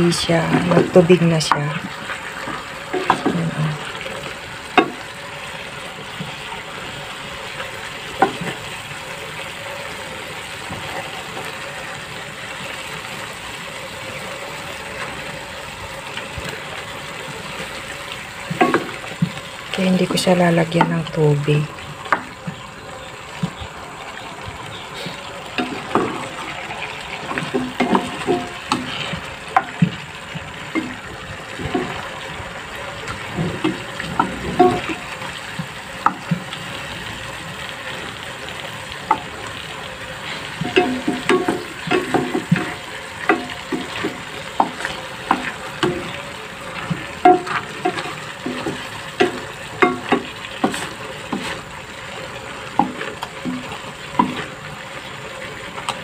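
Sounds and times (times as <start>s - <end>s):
squid sizzling: 0.0s - 56.0s.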